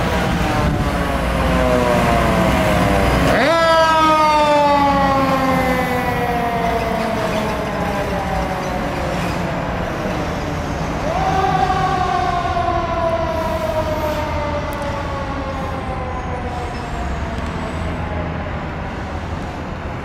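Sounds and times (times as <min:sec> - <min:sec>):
fire truck siren wailing: 0:00.0 - 0:20.0
truck engine rumble: 0:00.0 - 0:20.0.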